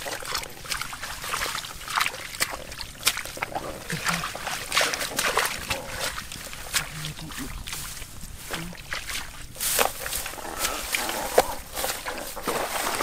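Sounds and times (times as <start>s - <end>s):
fish flopping and slapping: 0.0s - 13.0s.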